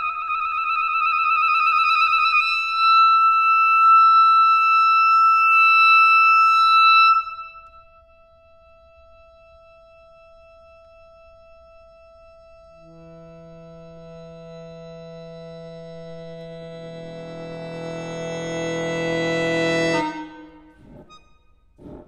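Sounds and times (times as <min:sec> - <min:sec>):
clarinet and accordion music: 0:02.0 - 0:22.0.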